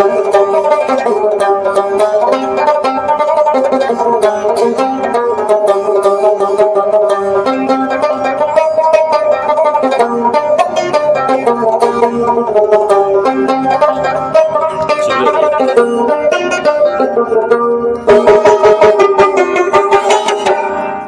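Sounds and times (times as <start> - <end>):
plucked string instrument: 0.0 - 21.0.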